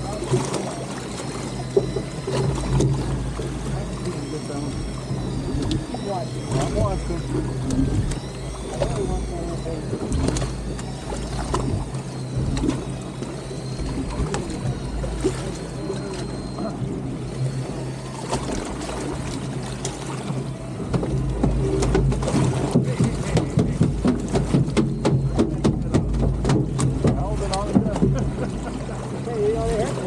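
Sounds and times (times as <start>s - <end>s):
boat engine running: 0.0s - 30.0s
water noise: 0.0s - 30.0s
wind: 0.0s - 30.0s.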